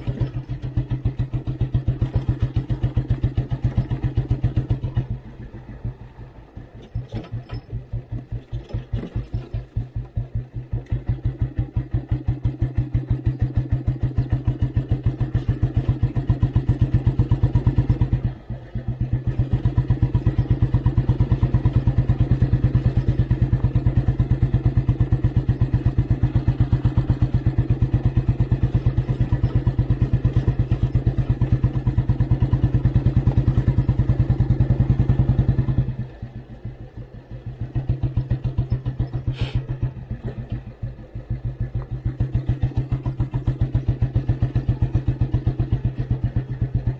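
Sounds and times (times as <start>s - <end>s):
motorcycle engine thumping: 0.0s - 46.9s.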